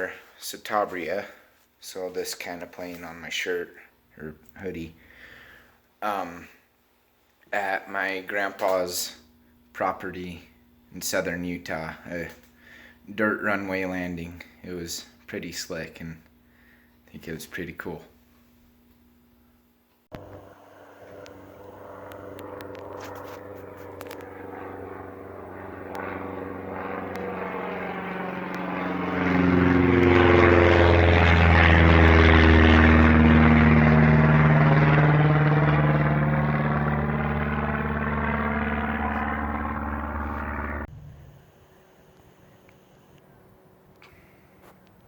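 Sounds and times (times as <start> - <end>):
propeller airplane drone: 0.0 - 6.7, 7.8 - 17.6, 20.1 - 45.0.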